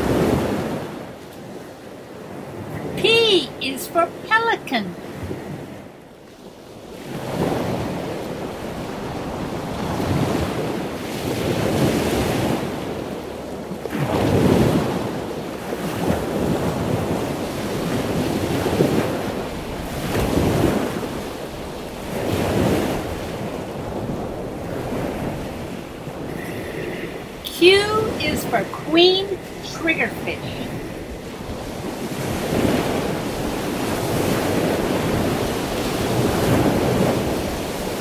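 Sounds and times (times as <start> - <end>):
wind on microphone: 5.0 - 38.0.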